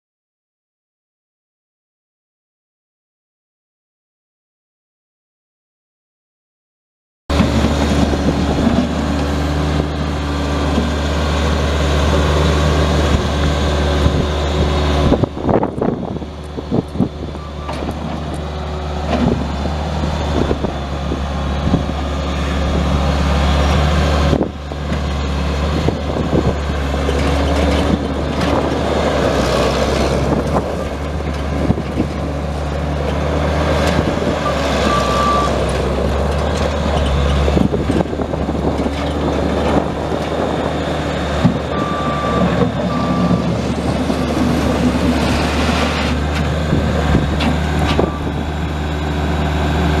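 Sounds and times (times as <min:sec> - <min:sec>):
diesel engine running: 0:07.3 - 0:50.0.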